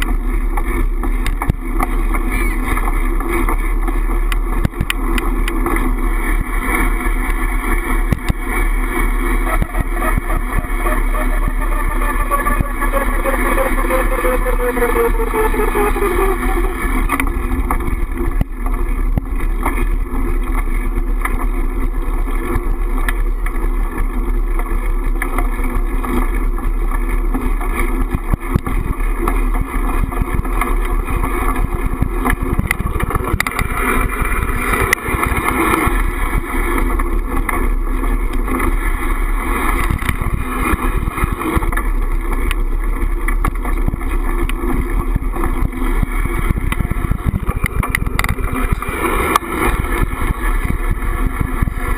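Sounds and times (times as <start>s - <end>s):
bike rattling over bumps: 0.0s - 51.9s
wind rumbling on microphone: 0.0s - 51.9s.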